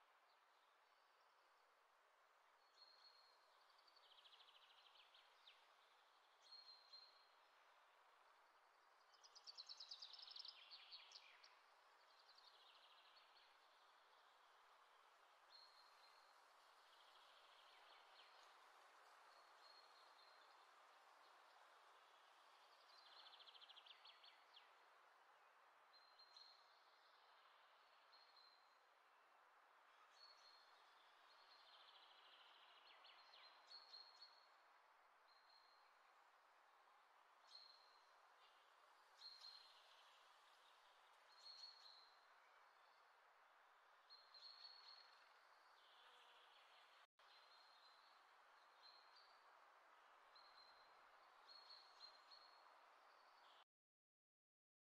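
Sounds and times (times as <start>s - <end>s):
faint steady hiss: 0.0s - 53.6s.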